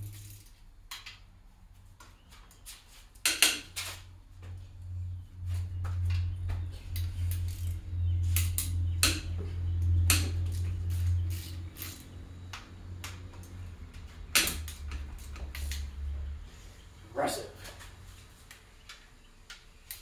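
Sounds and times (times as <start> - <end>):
steady low hum: 0.0 - 2.4, 3.0 - 20.0.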